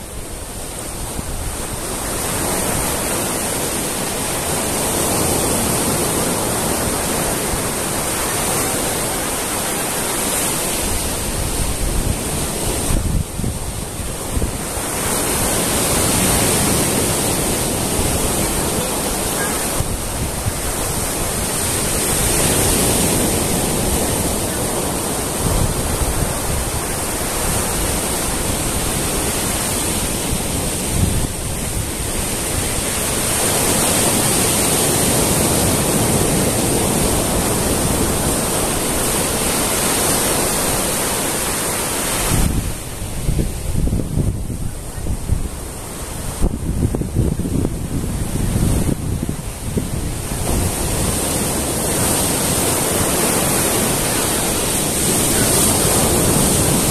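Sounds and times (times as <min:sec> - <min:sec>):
waves washing on beach: 0:00.0 - 0:56.9
wind on microphone: 0:00.0 - 0:56.9.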